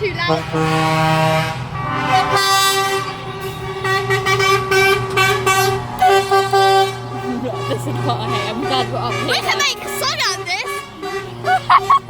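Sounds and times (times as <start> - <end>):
low engine hum: 0.0 - 12.0
truck horns blaring: 0.0 - 12.0.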